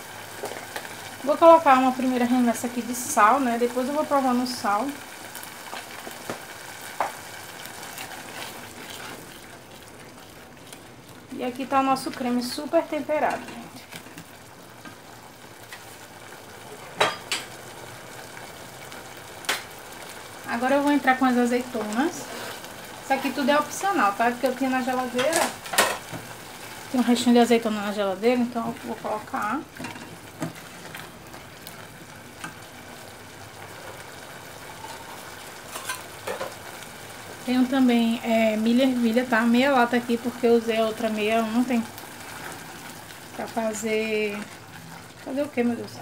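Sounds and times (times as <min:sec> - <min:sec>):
sauce sizzling in a saucepan: 0:00.0 - 0:46.0.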